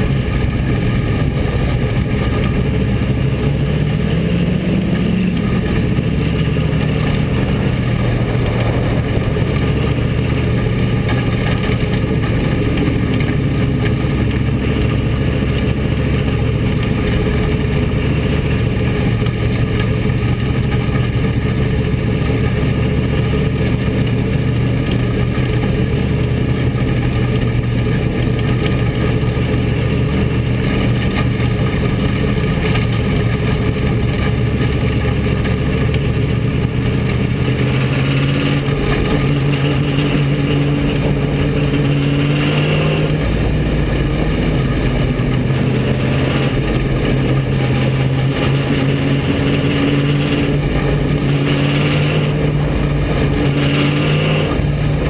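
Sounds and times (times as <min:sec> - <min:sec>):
race car engine running: 0:00.0 - 0:55.0.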